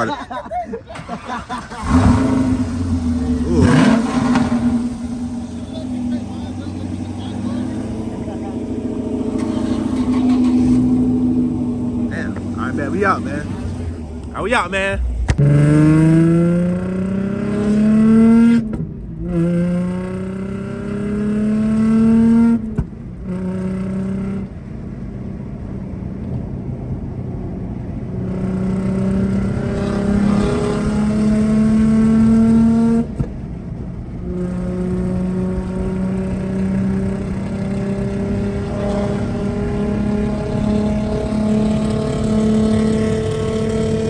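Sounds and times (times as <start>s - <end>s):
car engine accelerating: 0.9s - 44.0s.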